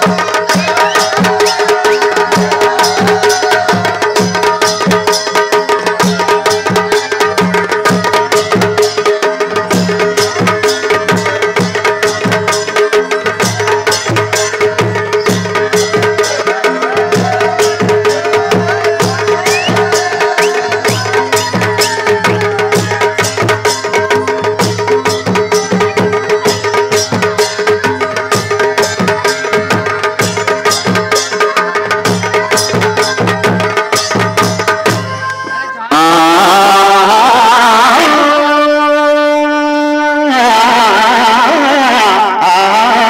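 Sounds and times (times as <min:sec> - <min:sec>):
fast drumming: 0:00.0 - 0:38.2.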